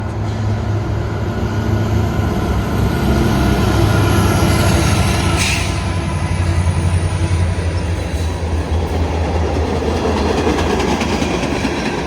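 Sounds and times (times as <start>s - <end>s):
locomotive engine drone: 0.0s - 9.8s.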